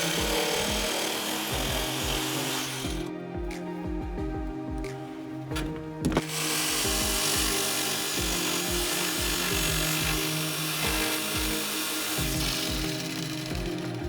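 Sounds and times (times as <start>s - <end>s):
power tool on wood: 0.0s - 3.1s, 5.6s - 14.0s
background music with steady beat: 0.0s - 14.0s.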